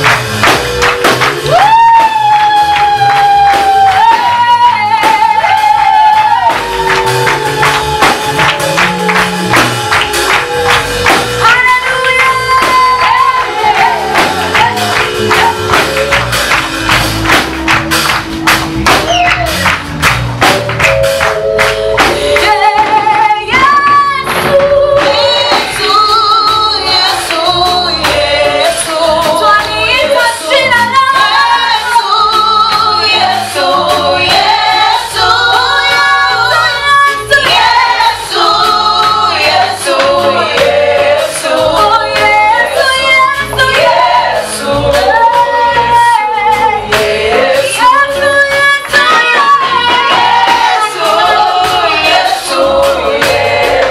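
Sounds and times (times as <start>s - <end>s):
vocal group singing a hymn: 0.0s - 16.7s, 21.4s - 53.9s
musical backing: 0.0s - 53.9s.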